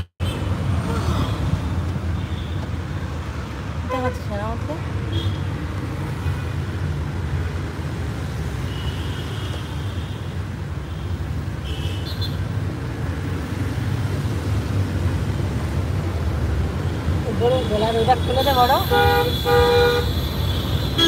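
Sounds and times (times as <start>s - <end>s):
car engine and tyre rumble: 0.4s - 21.0s.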